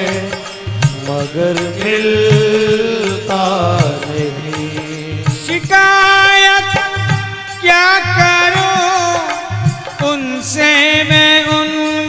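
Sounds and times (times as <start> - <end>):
harmonium: 0.0 - 12.0
men singing long ornamented notes: 0.0 - 12.0.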